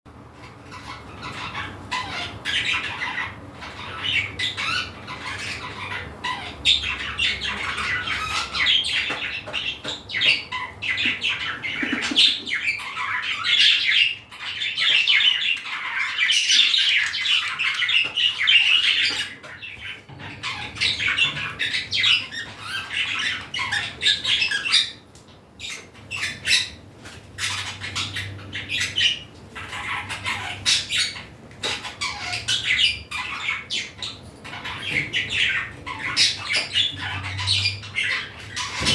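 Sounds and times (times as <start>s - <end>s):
budgerigars chattering: 0.4s - 38.9s.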